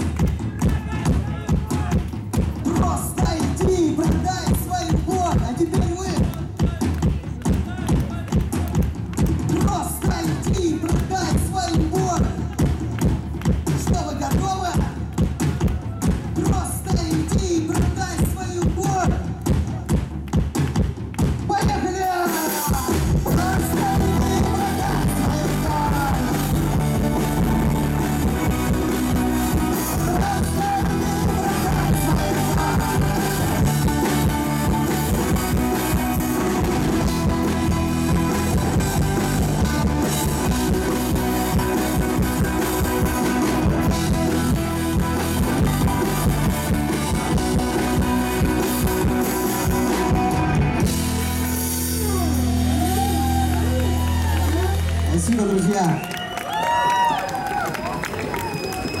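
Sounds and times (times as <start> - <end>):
live rock band playing: 0.0 - 55.8.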